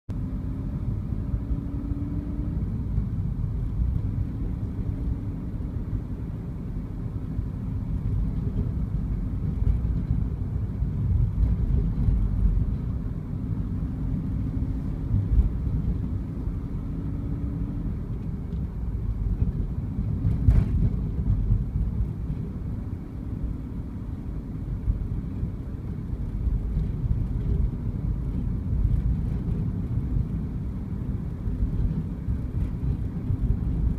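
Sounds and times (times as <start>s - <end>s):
car engine and road rumble: 0.1s - 33.9s.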